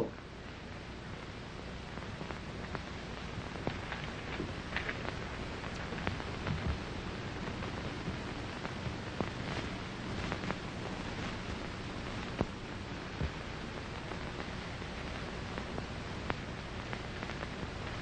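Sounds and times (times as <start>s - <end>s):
film soundtrack hiss: 0.0s - 18.0s
faint clicks and pops: 1.8s - 18.0s.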